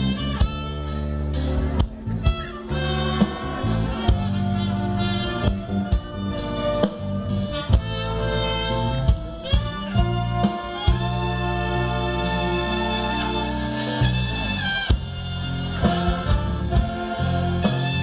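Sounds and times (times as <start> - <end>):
orchestra playing held chords: 0.0 - 18.0.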